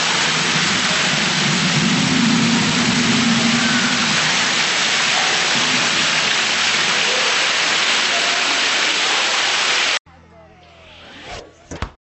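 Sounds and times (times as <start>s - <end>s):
water splashing over rocks into pool: 0.0s - 10.0s.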